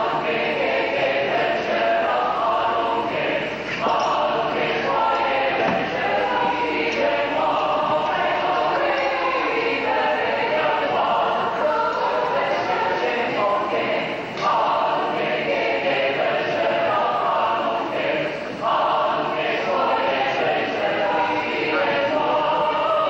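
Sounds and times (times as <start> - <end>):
mixed choir singing: 0.0 - 23.0.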